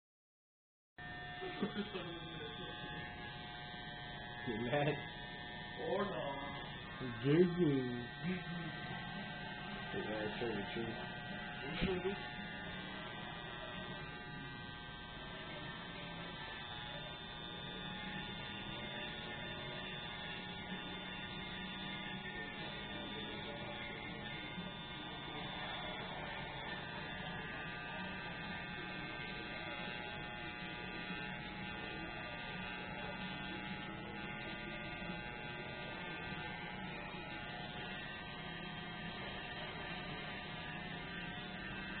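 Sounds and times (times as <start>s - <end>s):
electric hair trimmer humming: 1.0s - 42.0s.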